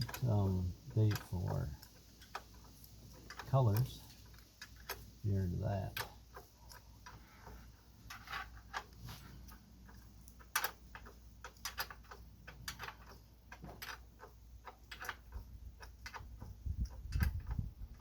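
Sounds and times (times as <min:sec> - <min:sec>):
ratcheting wrench clicking: 0:00.0 - 0:18.0.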